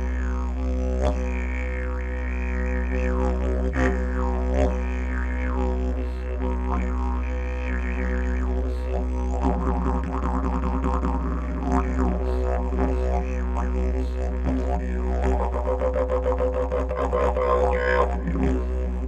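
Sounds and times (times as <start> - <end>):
didgeridoo drone: 0.0 - 19.0.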